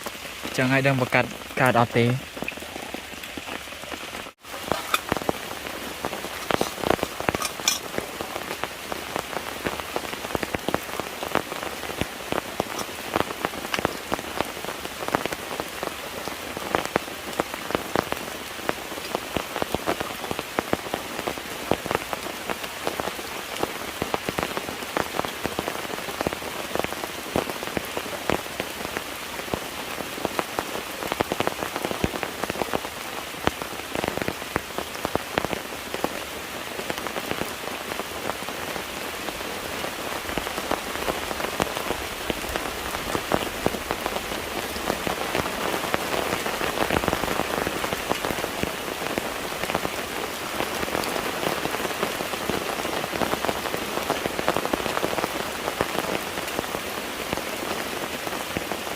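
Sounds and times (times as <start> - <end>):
raindrops ticking close by: 0.0 - 58.9
steady rain hiss: 0.0 - 58.9.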